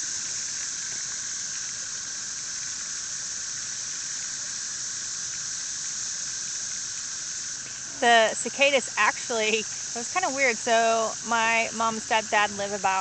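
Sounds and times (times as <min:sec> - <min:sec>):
cicadas chorus hissing: 0:00.0 - 0:13.0.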